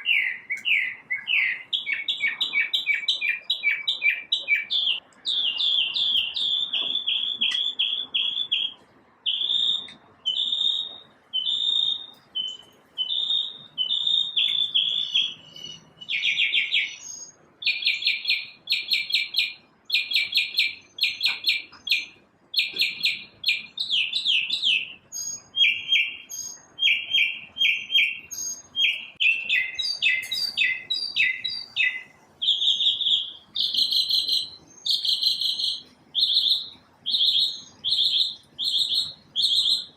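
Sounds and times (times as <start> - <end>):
songbird singing trills and chirps: 0.0 - 39.9.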